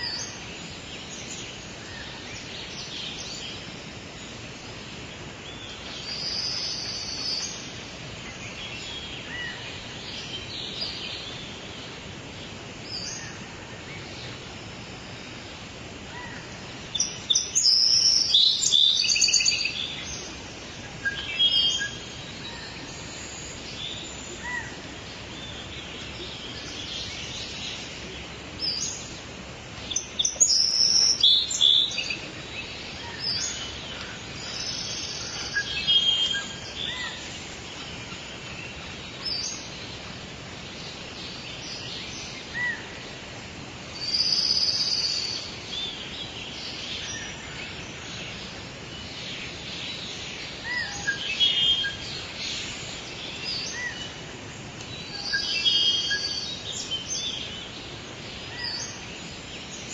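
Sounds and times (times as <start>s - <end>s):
background hiss: 0.0s - 59.9s
songbirds chirping: 0.0s - 59.9s.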